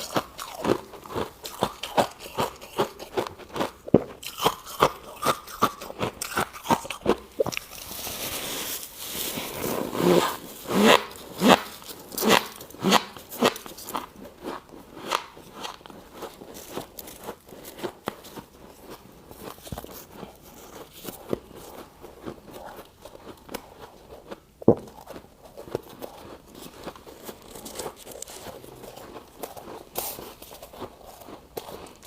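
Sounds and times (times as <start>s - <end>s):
crunching frost being chewed: 0.0s - 32.0s.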